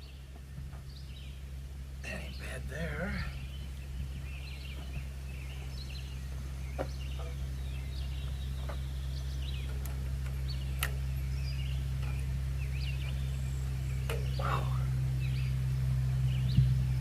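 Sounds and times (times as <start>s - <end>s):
low mechanical hum: 0.0s - 17.0s
small birds chirping: 0.0s - 17.0s.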